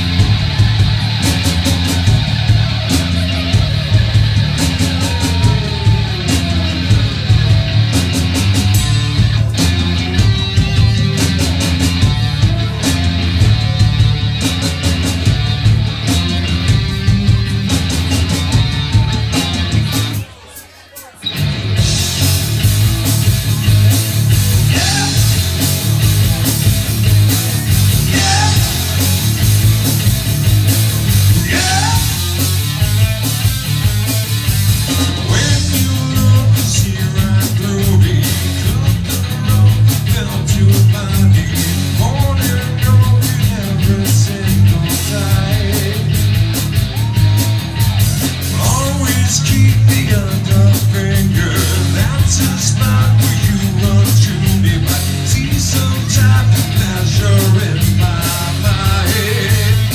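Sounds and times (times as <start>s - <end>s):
bass guitar: 0.0s - 20.5s, 21.1s - 59.9s
drum kit: 0.0s - 59.9s
electric guitars: 0.0s - 59.9s.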